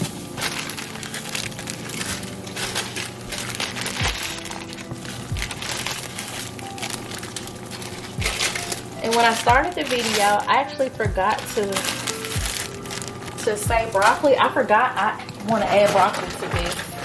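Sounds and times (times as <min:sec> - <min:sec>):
background music: 0:00.0 - 0:17.0
dry noodles crackling: 0:00.0 - 0:17.0.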